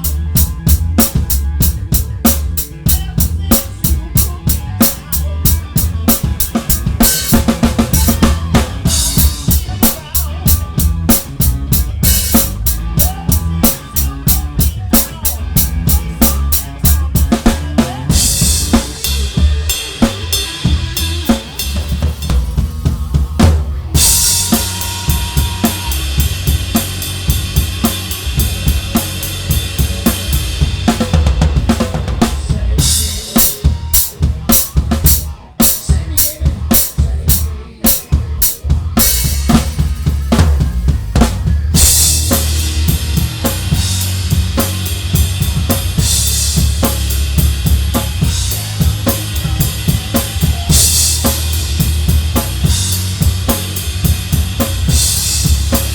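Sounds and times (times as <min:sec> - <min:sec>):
bass guitar line: 0:00.0 - 0:55.9
drum kit beat: 0:00.0 - 0:55.9.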